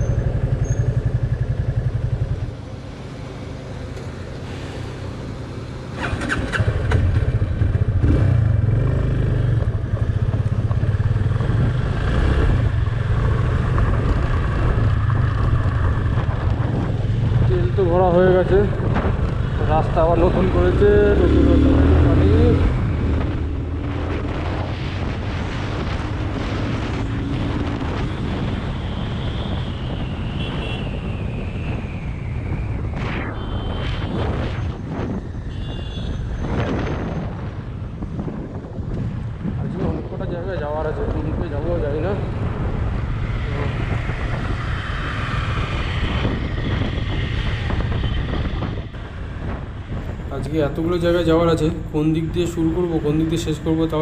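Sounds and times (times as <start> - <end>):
motorcycle engine and road rumble: 0.0 - 54.0
wind rushing over microphone: 4.2 - 54.0.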